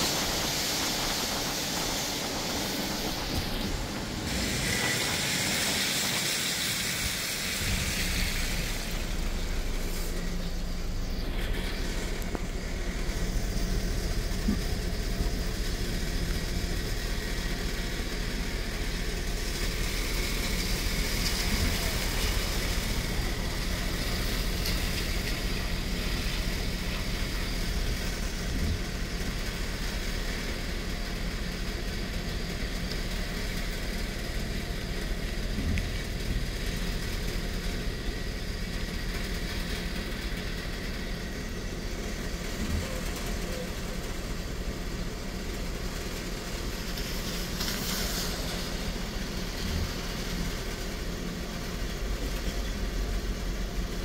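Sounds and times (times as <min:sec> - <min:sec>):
heavy rain hissing: 0:00.0 - 0:54.0
tyres on wet pavement: 0:00.0 - 0:54.0
vehicle engine idling: 0:00.0 - 0:54.0.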